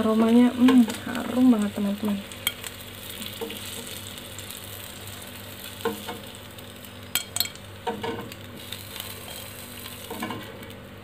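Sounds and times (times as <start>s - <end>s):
meat sizzling on a grill pan: 0.0s - 11.0s.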